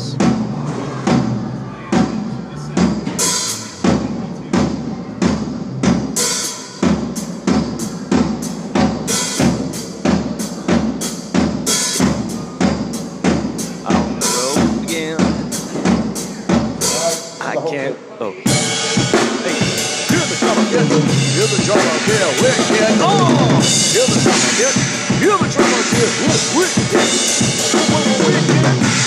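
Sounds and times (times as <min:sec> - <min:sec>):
music with drum beat: 0:00.0 - 0:17.4, 0:18.5 - 0:29.0.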